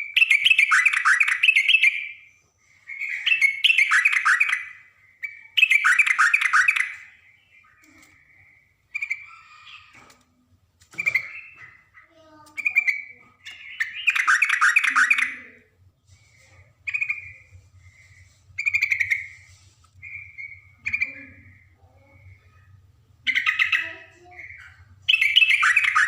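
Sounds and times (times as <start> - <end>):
birds chattering fast: 0.0 - 10.2, 10.8 - 15.7, 16.3 - 26.0
birds calling: 0.0 - 26.0.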